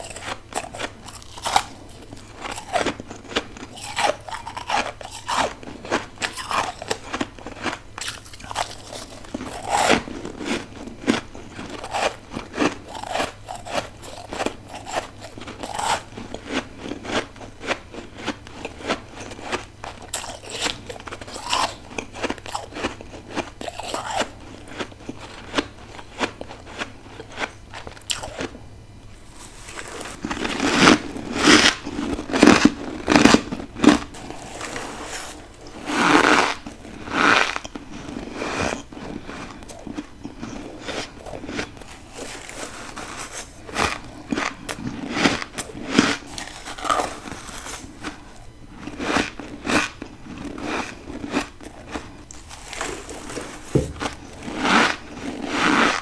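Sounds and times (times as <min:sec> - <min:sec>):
chewing ice crunches: 0:00.0 - 0:56.0
low steady hum: 0:00.0 - 0:56.0.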